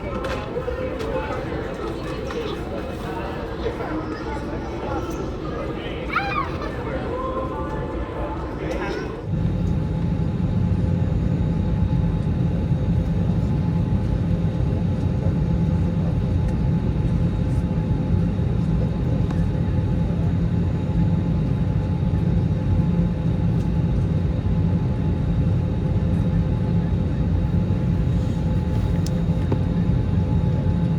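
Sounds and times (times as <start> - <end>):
aircraft cabin low rumble: 0.0 - 30.9
faint engine and air system hum: 0.0 - 30.9.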